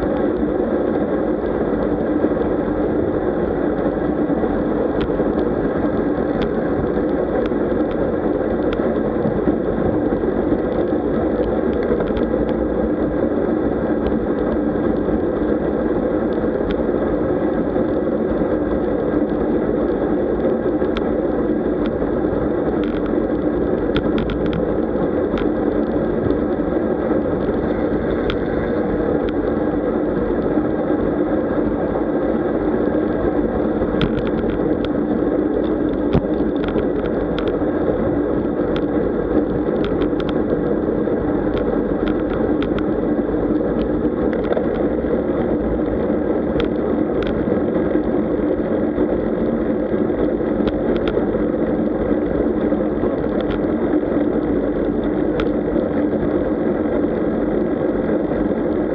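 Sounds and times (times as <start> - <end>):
wind and tyre rush: 0.0 - 58.9.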